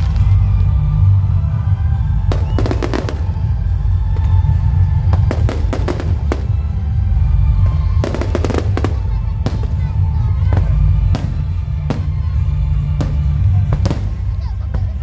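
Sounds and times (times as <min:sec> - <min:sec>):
crackling firework bangs: 0:02.3 - 0:15.0
fireworks booming: 0:02.3 - 0:15.0.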